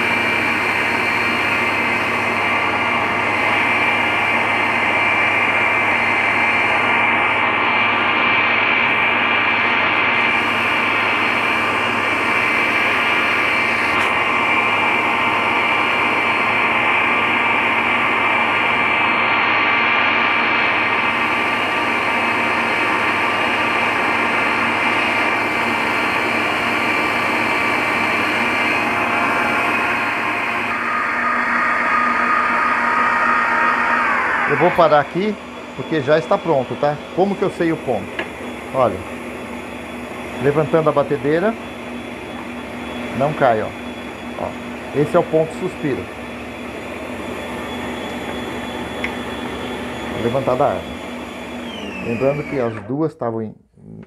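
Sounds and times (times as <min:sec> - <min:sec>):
stand mixers whining: 0:00.0 - 0:53.1.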